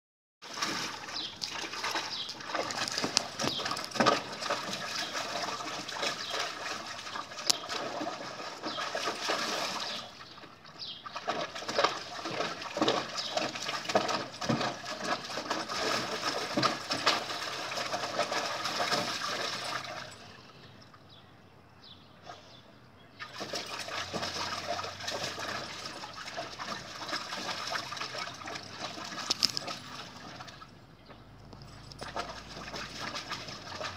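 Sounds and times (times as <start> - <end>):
puppy splashing in water: 0.4 - 20.4, 23.2 - 30.8, 31.5 - 33.9.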